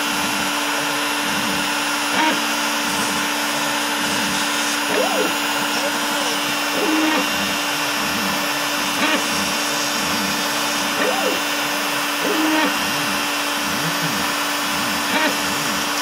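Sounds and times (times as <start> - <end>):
router cutting foam board: 0.0 - 16.0
stepper motors whining: 0.0 - 16.0.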